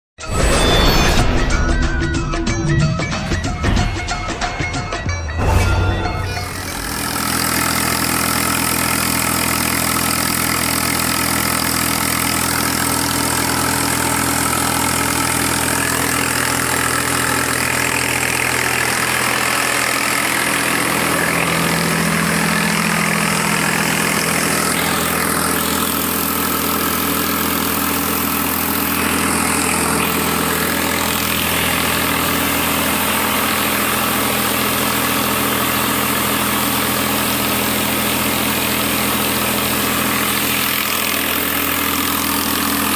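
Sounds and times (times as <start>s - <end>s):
tractor diesel engine running: 1.2s - 42.9s.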